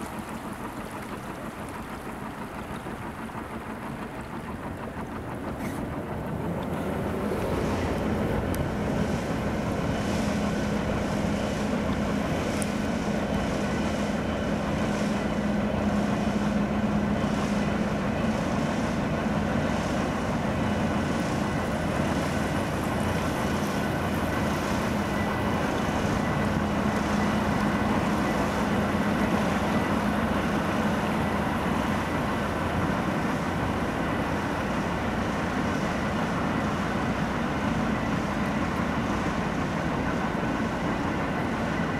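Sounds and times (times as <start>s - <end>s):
boat engine humming: 0.0s - 41.9s
water noise: 0.0s - 41.9s.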